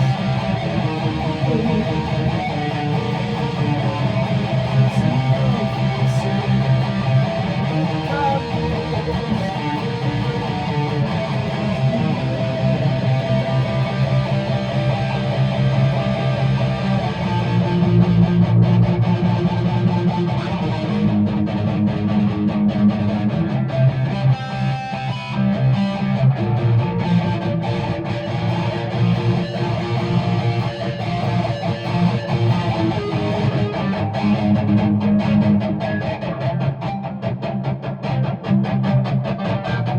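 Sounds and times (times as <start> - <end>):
strummed guitar chords: 0.0 - 39.9.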